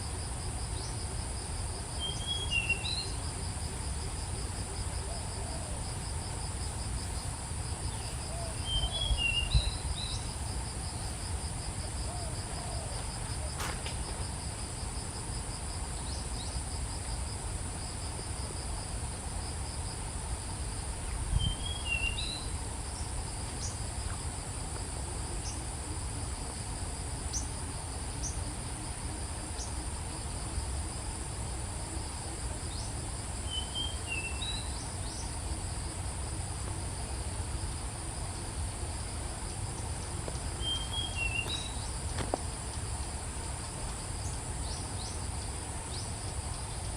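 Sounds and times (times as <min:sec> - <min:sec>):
insect chorus with pulsing trill: 0:00.0 - 0:46.9.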